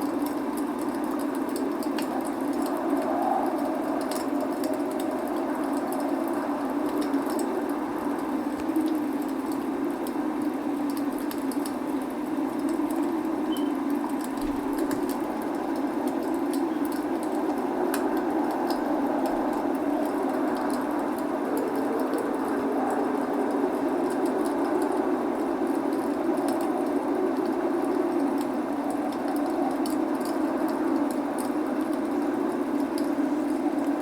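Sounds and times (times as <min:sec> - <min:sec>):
log fire crackling: 0:00.0 - 0:34.0
rain rushing: 0:00.0 - 0:34.0.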